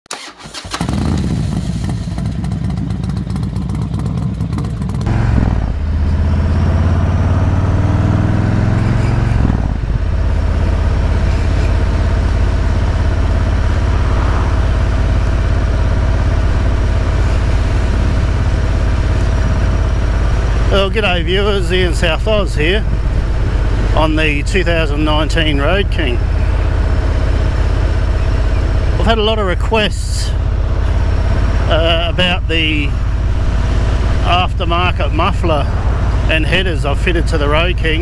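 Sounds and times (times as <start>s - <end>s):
motorcycle exhaust accelerating: 0.7s - 38.0s.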